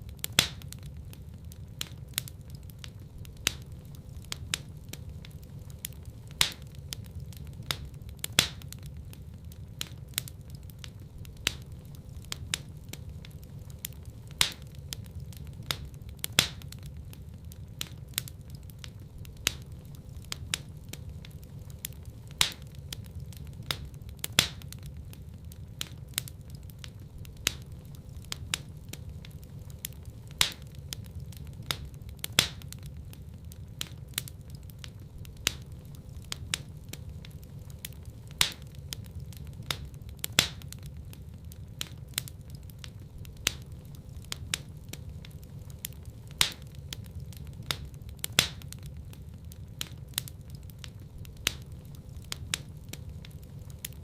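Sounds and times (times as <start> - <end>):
fire crackling and popping: 0.0 - 54.0
loud snaps from fire: 0.0 - 54.0
low rumble of flames: 0.0 - 54.0.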